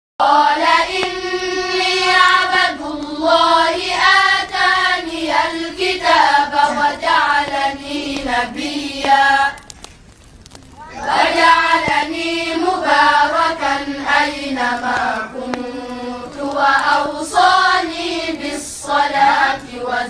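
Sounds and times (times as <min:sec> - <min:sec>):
children chanting in unison: 0:00.2 - 0:09.6, 0:10.8 - 0:20.0.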